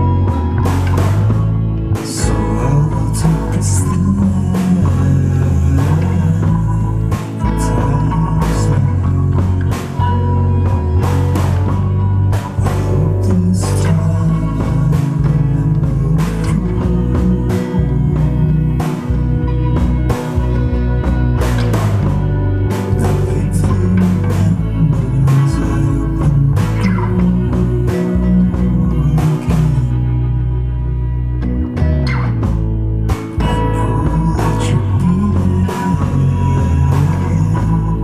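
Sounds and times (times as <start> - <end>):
steady drum beat: 0.0 - 30.4, 31.4 - 38.0
electric guitar: 0.0 - 38.0
heavy bass line: 0.0 - 38.0.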